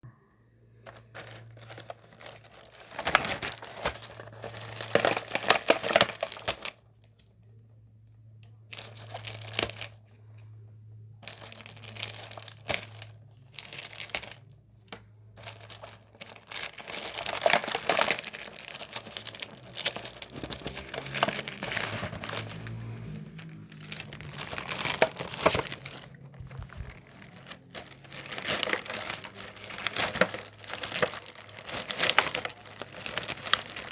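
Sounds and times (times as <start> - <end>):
low steady hum: 0.0 - 33.9
packaging crinkling and tearing: 0.8 - 7.3, 8.7 - 10.0, 11.2 - 33.9.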